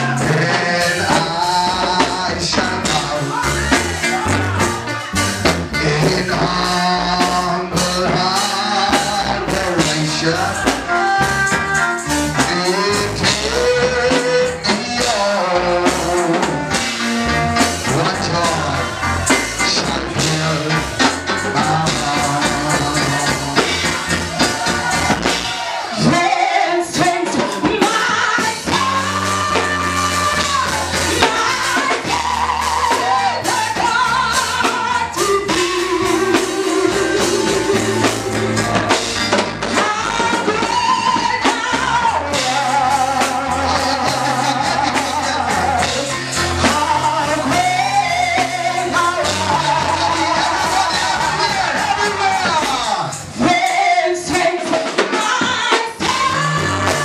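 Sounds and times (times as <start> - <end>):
gospel worship music: 0.0 - 57.0.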